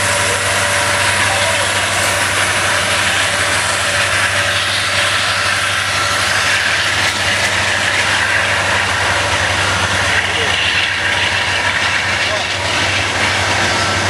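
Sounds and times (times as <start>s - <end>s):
low diesel engine hum: 0.0s - 14.0s
train rumbling on rails: 0.0s - 14.0s.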